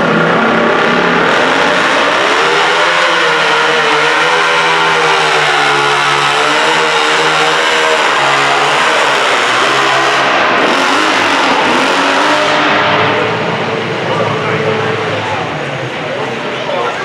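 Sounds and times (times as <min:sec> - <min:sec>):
tractor engine revving hard: 0:00.0 - 0:16.5.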